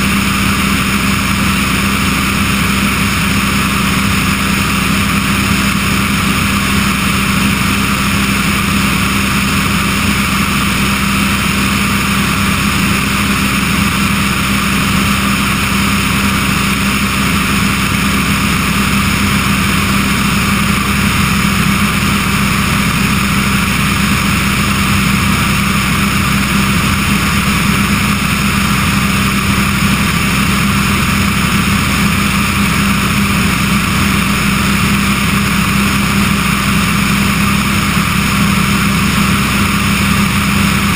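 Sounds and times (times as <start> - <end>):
aircraft engine and propeller droning: 0.0 - 40.9
airflow rushing over microphone: 0.0 - 40.9.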